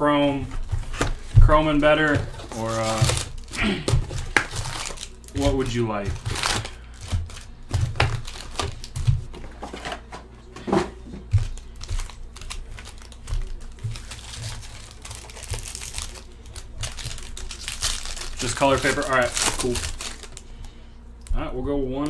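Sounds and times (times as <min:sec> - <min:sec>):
foil packs crinkling: 0:00.1 - 0:20.8.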